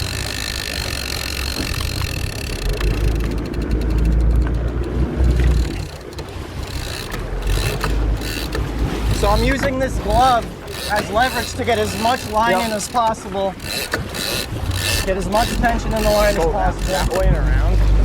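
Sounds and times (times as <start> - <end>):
fishing reel ticking: 0.0 - 17.8
boat engine: 0.0 - 18.0.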